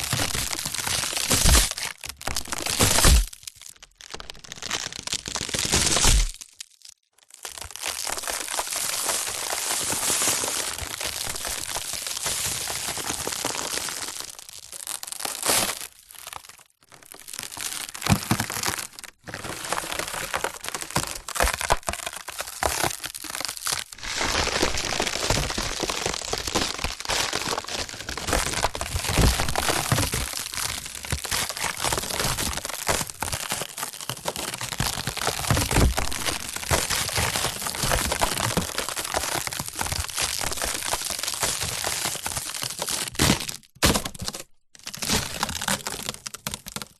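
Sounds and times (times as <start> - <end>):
wood splintering and cracking: 0.0 - 46.9.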